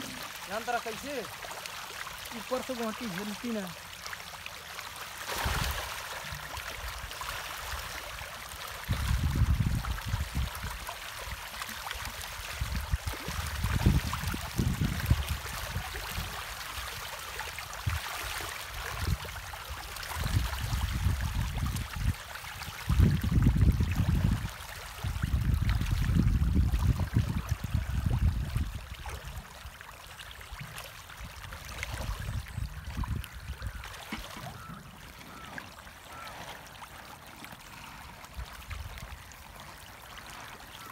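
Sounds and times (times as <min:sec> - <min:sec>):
fish splashing in pond: 0:00.0 - 0:40.9.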